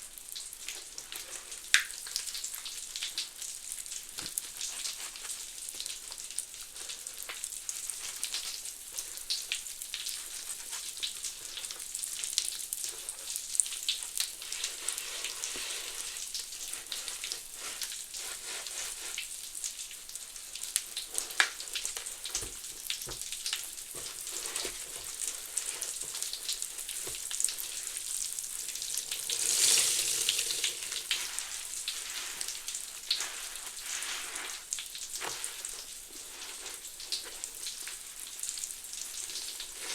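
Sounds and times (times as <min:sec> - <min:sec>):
foam bubbles fizzing and crackling: 0:00.0 - 0:39.9.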